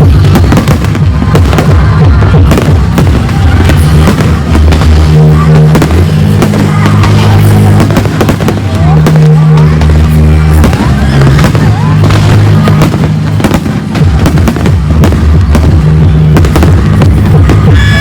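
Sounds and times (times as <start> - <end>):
fireworks bangs: 0.0 - 18.0
music with low bass notes: 0.0 - 18.0.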